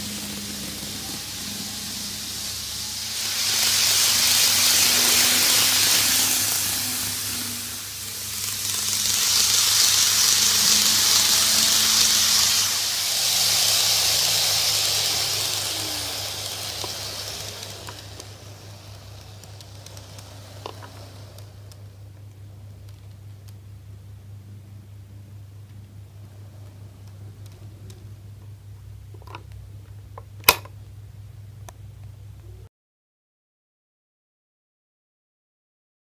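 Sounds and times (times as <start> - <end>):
model train whirring on track: 0.0 - 31.7.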